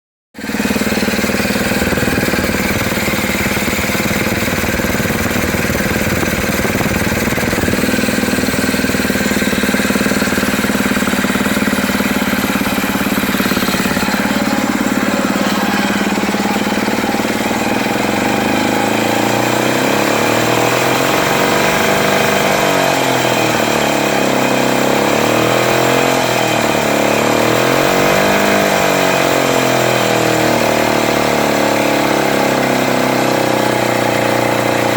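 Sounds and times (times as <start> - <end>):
outboard motor running: 0.4 - 34.9.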